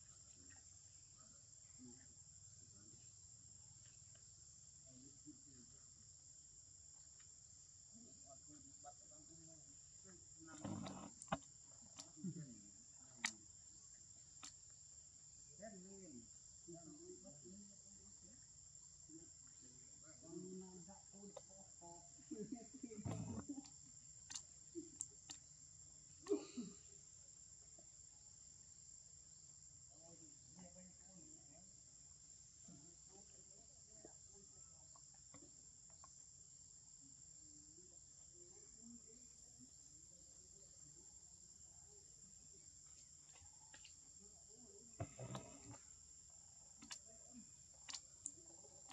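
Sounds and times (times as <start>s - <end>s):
insects chirring: 0.0s - 48.9s.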